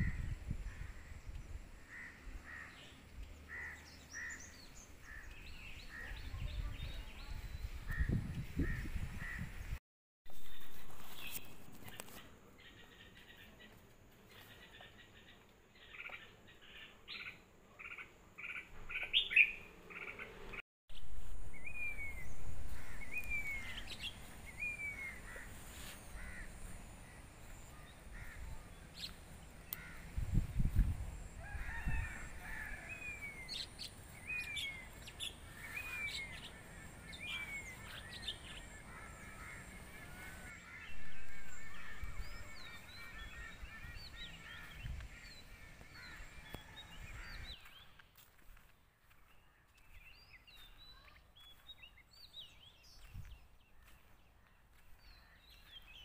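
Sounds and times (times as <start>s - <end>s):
birds calling: 0.0s - 13.7s, 14.3s - 20.6s, 21.5s - 56.0s.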